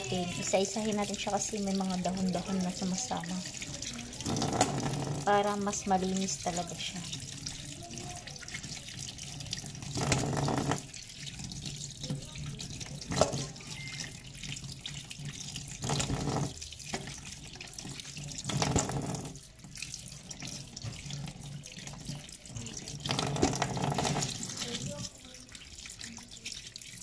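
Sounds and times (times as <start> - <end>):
tap water running into sink: 0.0 - 27.0
water splashing: 0.0 - 27.0.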